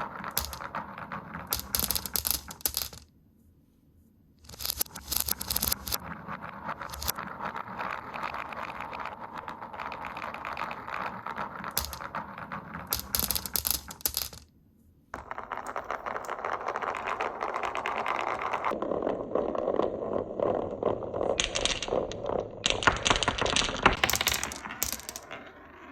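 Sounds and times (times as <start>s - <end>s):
glass marbles rolling on wood: 0.0s - 3.0s, 4.5s - 14.5s, 15.2s - 25.9s
marbles clacking: 0.0s - 3.0s, 4.5s - 14.5s, 15.2s - 25.9s.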